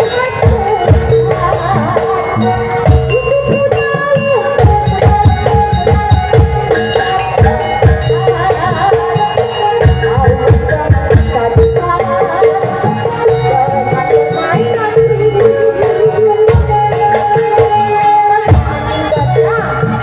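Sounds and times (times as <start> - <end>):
hand drums beating: 0.0 - 20.0.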